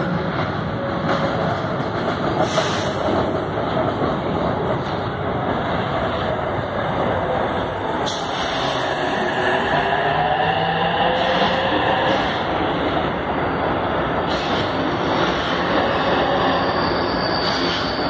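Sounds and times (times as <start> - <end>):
train roaring into station: 0.0 - 18.0.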